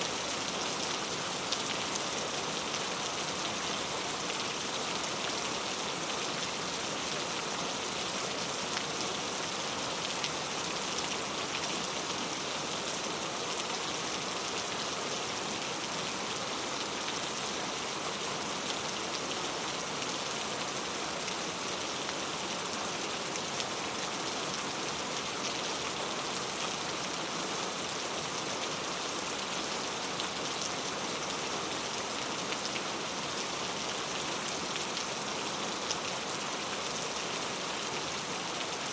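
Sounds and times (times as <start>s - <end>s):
rain falling into a puddle: 0.0s - 38.9s.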